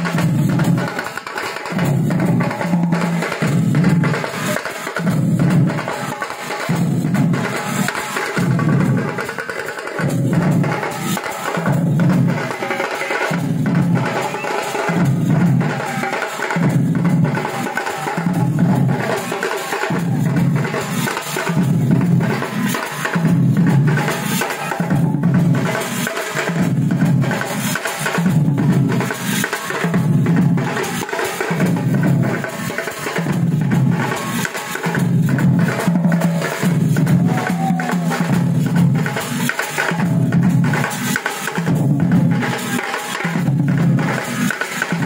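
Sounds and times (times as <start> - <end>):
large drums beaten with sticks: 0.0 - 45.0.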